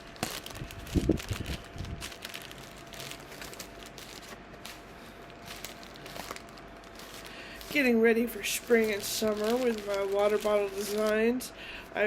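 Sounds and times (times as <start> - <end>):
packaging crackles: 0.0 - 11.4
packaging crinkling and rustling: 0.0 - 11.4.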